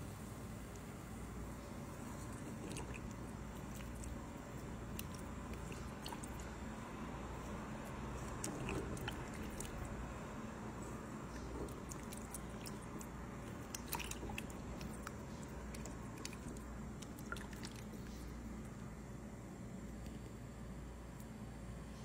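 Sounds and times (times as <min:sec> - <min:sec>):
wet squishing and sloshing: 0:00.7 - 0:18.8.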